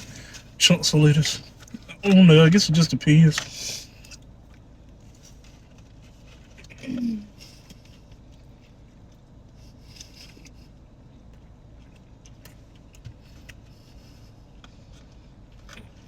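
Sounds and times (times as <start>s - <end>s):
car interior hum: 0.0s - 16.0s.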